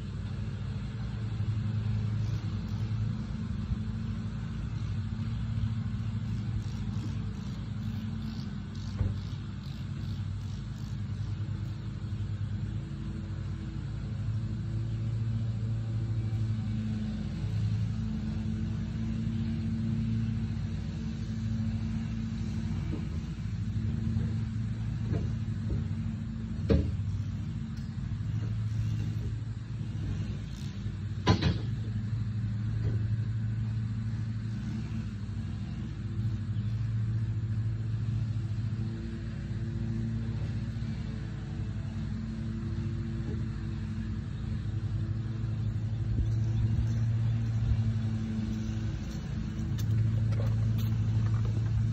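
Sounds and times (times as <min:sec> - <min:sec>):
engine idling: 0:00.0 - 0:51.9.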